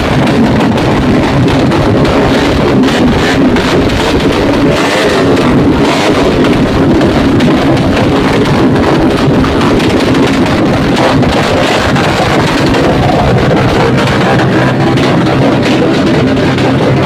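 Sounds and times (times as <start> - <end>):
exhaust rumble with pops and crackles: 0.0 - 17.0.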